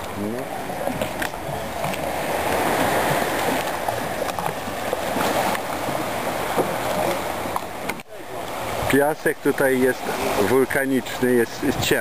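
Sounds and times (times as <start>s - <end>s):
water lapping against jetty: 0.0s - 12.0s.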